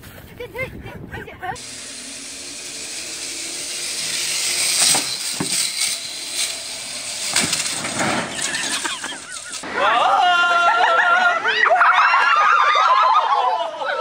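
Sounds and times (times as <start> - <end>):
zip-line trolley rattling whir: 1.6 - 14.0.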